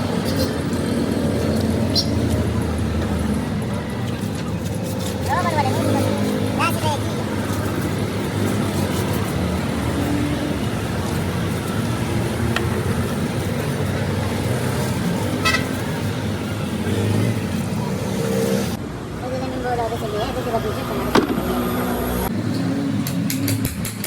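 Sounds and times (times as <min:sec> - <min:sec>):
engine and traffic noise: 0:00.0 - 0:24.0.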